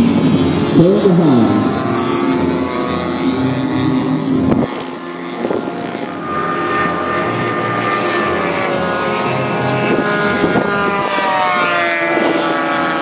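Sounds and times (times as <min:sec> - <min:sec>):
model plane propeller engines droning: 0:00.0 - 0:13.0.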